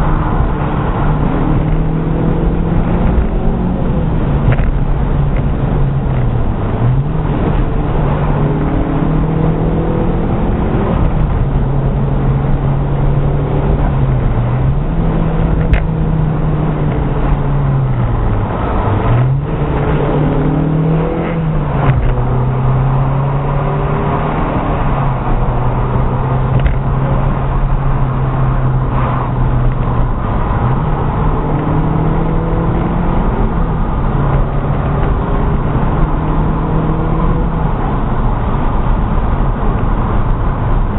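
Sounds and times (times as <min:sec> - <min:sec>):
car engine accelerating: 0:00.0 - 0:40.9
tyre and road noise: 0:00.0 - 0:40.9.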